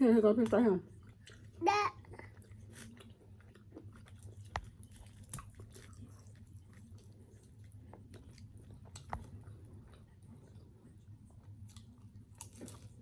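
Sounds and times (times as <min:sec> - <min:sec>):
quiet chewing: 0:00.4 - 0:13.0.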